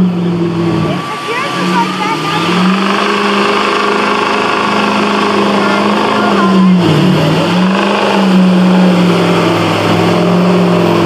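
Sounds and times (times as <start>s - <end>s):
diesel engine at high revs: 0.0s - 11.0s.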